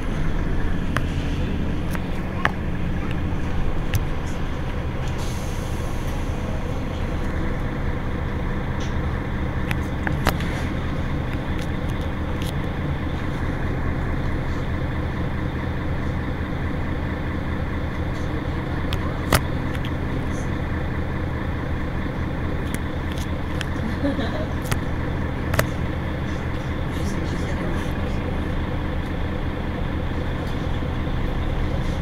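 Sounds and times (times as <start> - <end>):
bus engine idling: 0.0 - 32.0.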